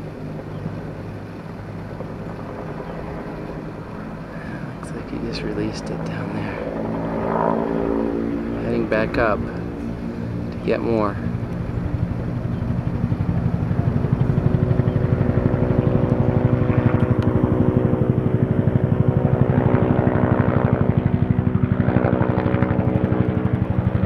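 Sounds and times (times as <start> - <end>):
helicopter engine tone: 0.0 - 24.0
helicopter rotor beating: 0.0 - 24.0.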